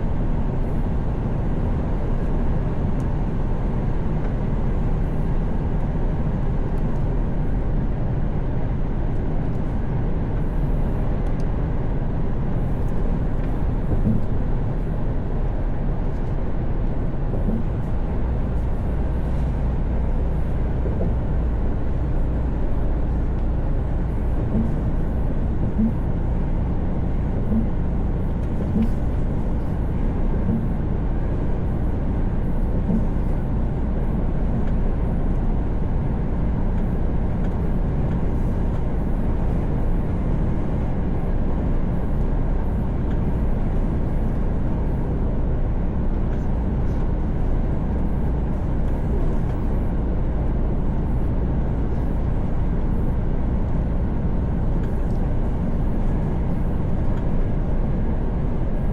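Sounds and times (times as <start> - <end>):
truck engine drone: 0.0 - 58.9.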